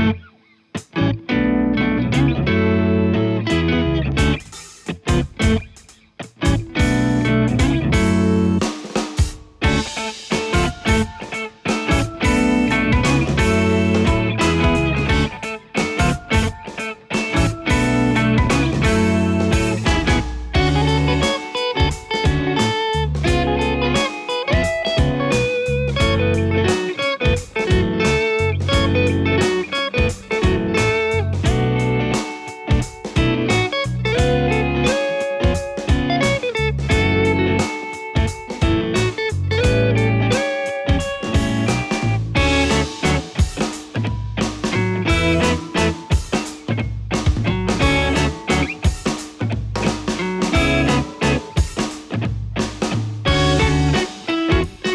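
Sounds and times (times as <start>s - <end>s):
electric guitar chords: 0.0s - 8.7s, 9.6s - 54.9s.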